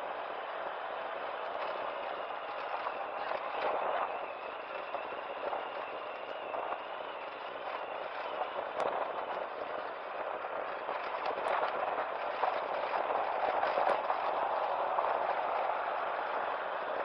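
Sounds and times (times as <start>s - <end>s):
wind and tyre noise: 0.0s - 17.0s.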